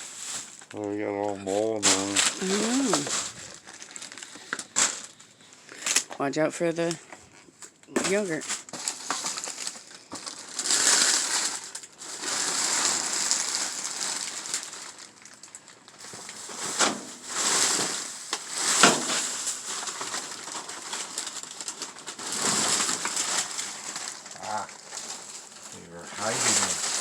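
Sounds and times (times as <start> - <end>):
packaging rustling and crinkling: 0.0 - 6.3, 7.1 - 27.0.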